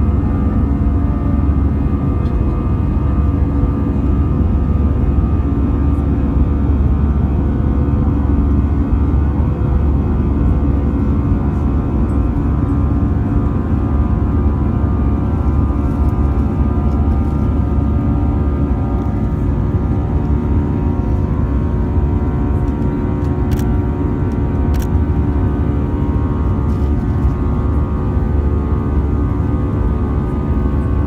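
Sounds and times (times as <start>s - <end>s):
airplane cabin engine rumble: 0.0s - 31.0s
engine tone hum: 0.0s - 31.0s.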